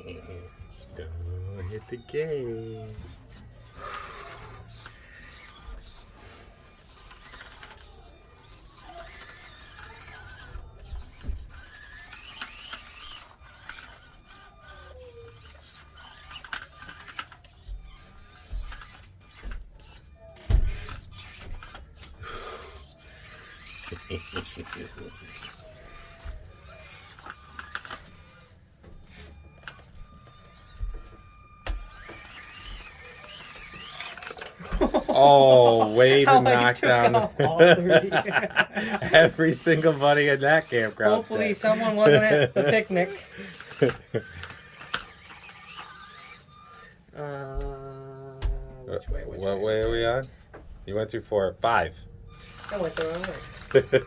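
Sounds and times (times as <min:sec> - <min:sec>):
toy car clicking against obstacles: 0:00.0 - 0:47.9, 0:52.2 - 0:54.0
small electric motor whining: 0:00.0 - 0:54.0.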